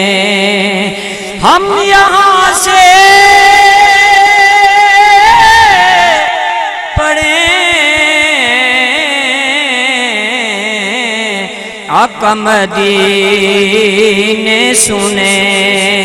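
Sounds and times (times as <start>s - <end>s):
man singing without words: 0.0s - 16.0s.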